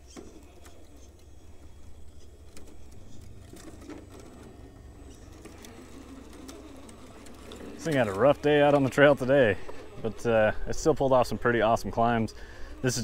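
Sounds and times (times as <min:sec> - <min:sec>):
toy car electric motor whirring: 0:00.0 - 0:13.0
tyres clicking and scraping on rock: 0:00.0 - 0:13.0.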